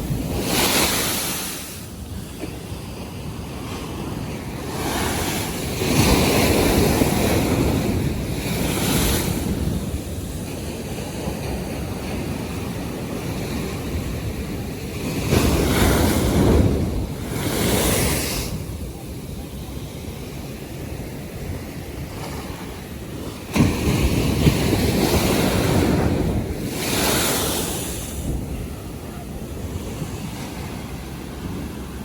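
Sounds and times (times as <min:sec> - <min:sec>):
waves breaking and washing in: 0:00.0 - 0:32.0
wind buffeting microphone: 0:00.0 - 0:32.0.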